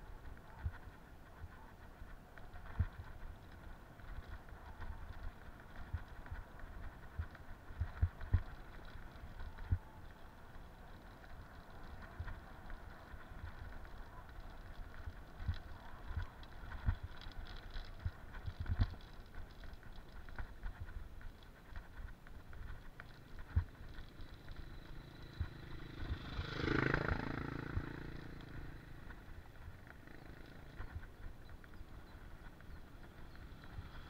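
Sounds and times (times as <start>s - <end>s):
bicycle tyres rolling on dirt: 0.0s - 34.0s.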